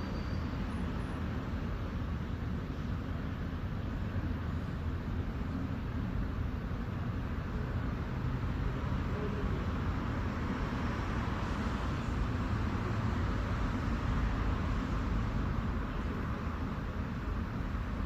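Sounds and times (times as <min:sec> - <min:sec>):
urban road traffic: 0:00.0 - 0:18.0.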